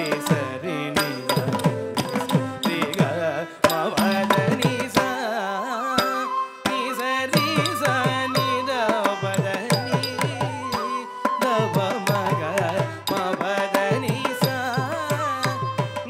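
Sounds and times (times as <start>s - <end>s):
mridangam drum strokes: 0.0s - 5.3s, 6.0s - 16.0s
flute: 0.0s - 16.0s
person singing: 0.0s - 16.0s
violin: 0.0s - 16.0s.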